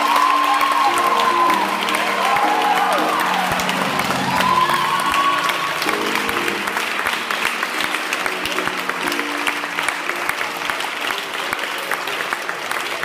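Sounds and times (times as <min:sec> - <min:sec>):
grand piano chords: 0:00.0 - 0:11.5
group applauding: 0:00.0 - 0:13.0.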